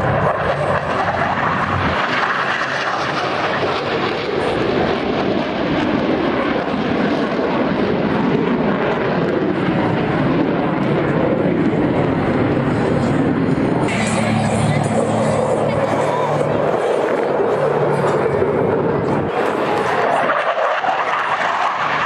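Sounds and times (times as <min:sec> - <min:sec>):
jet engines roaring past: 0:00.0 - 0:22.0.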